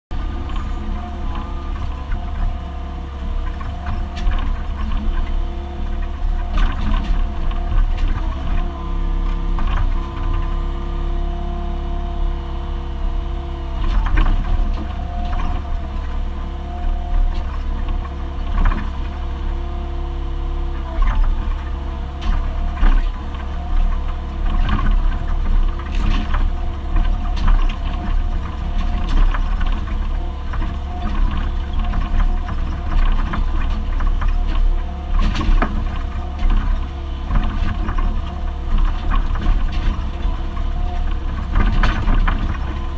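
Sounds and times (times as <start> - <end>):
excavator engine running: 0.1 - 42.9
hydraulic whine: 0.1 - 42.9.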